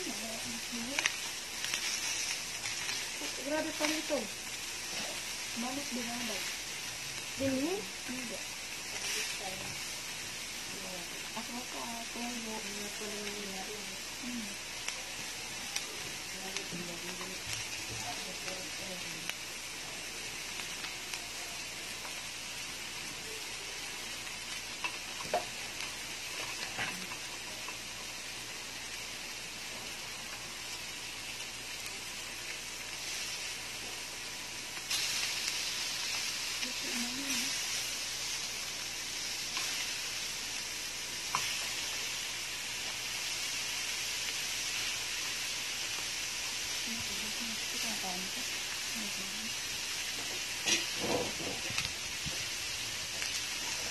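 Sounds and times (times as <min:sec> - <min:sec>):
food sizzling on a grill pan: 0:00.0 - 0:53.9.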